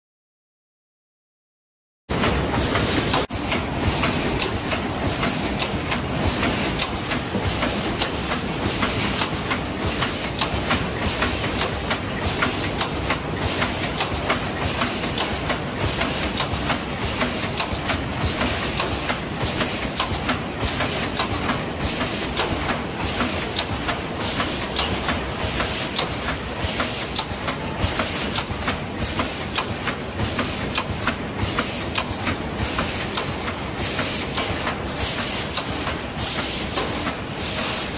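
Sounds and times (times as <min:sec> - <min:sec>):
machine clatter: 0:02.1 - 0:37.9.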